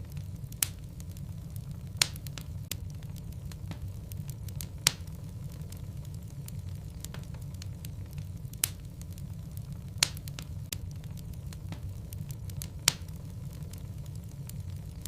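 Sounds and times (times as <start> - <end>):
logs crackling in a fireplace: 0.0 - 15.0.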